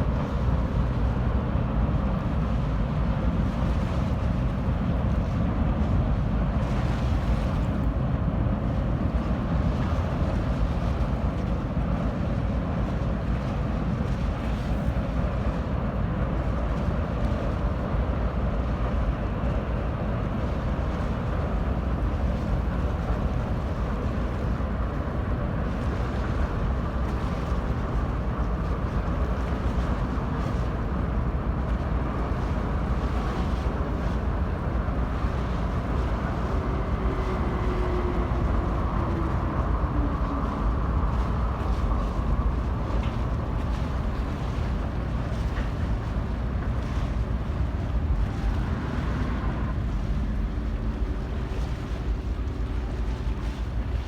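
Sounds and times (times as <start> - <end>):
ferry engine rumble: 0.0 - 54.0
wind on microphone: 0.0 - 54.0.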